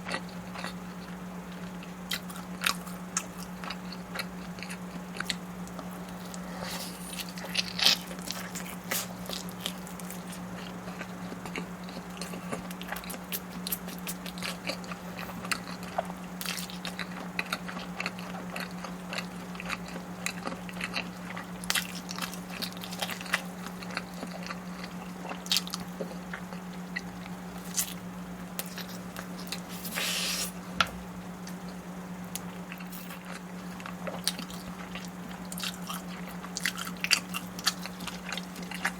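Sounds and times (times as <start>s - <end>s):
chewing and crunching: 0.0s - 30.3s, 31.4s - 38.9s
steady low hum: 0.0s - 38.9s.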